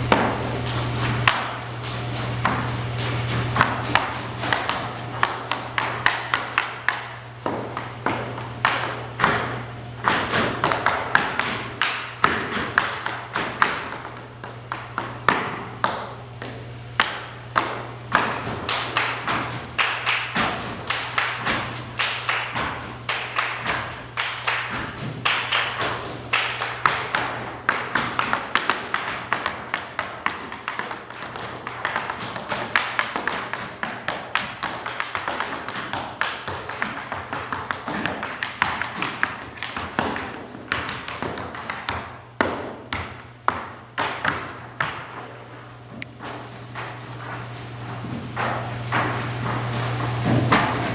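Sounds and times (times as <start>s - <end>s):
low steady hum: 0.0s - 50.9s
tap shoes striking floor: 0.0s - 50.9s.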